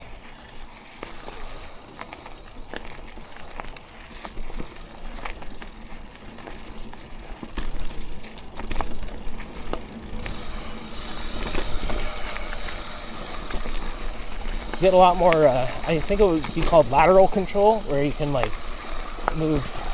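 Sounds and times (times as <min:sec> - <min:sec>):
bike clicks and rattles: 0:00.0 - 0:19.9
bike rolling on trail: 0:00.0 - 0:19.9.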